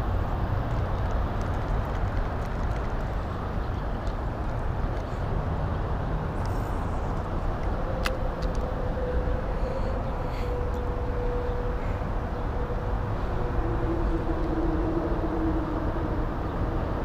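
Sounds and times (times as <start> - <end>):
faint steady hum: 0.0 - 17.0
road traffic rumble: 0.0 - 17.0.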